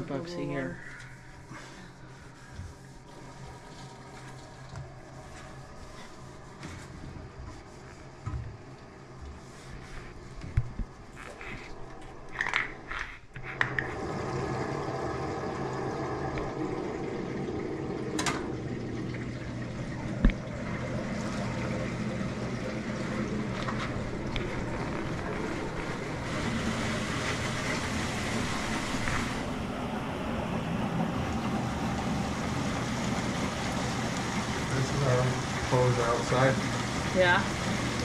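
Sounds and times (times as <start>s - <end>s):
faint hum: 0.0s - 38.0s
water rushing through pipes: 0.0s - 38.0s.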